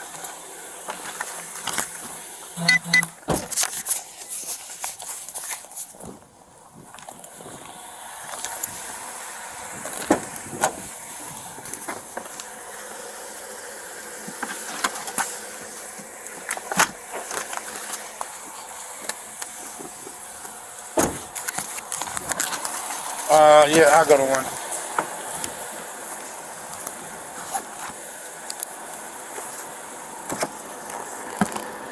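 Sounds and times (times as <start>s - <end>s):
steady hissing background noise: 0.0s - 31.9s.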